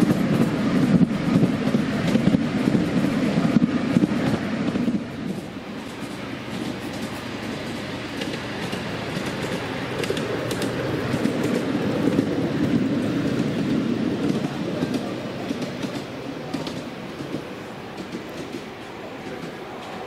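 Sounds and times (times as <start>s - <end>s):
miniature train rumbling by: 0.0s - 20.0s.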